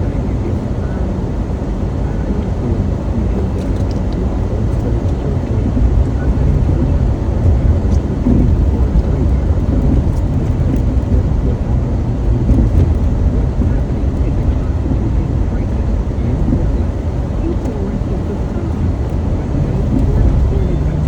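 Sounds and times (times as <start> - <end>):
loud low rumble: 0.0 - 21.0.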